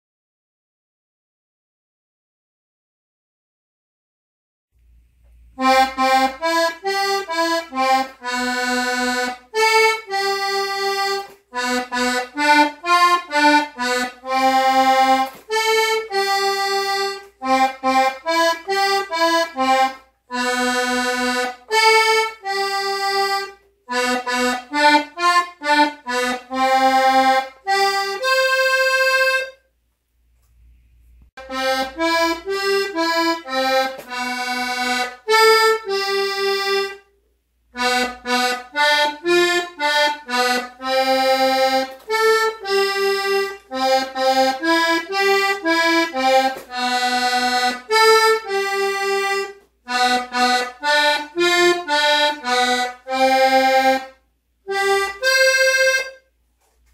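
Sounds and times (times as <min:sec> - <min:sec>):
button accordion playing: 0:05.3 - 0:29.7, 0:31.4 - 0:56.9.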